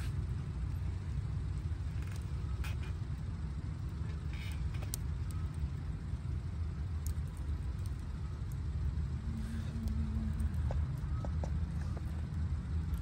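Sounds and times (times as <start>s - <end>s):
campfire rumbling: 0.0s - 13.0s
wood crackling: 0.0s - 13.0s.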